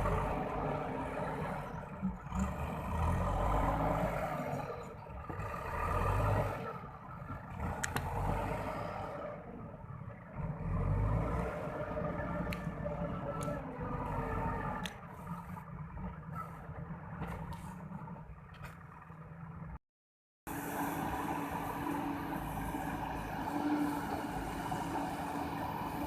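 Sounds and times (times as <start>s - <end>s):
backhoe diesel engine working: 0.0s - 19.8s, 20.5s - 26.0s.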